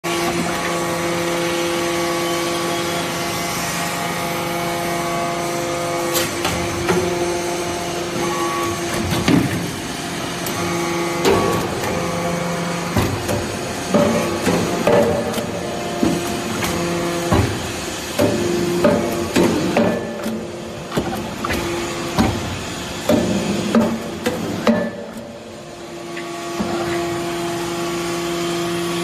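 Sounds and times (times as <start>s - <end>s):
hydraulic power unit hum: 0.0s - 29.0s.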